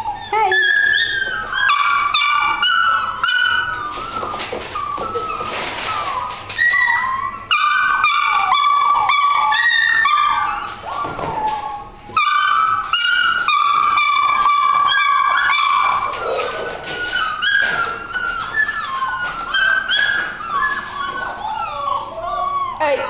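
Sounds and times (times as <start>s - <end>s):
puppies yelping and whining: 0.0s - 23.0s.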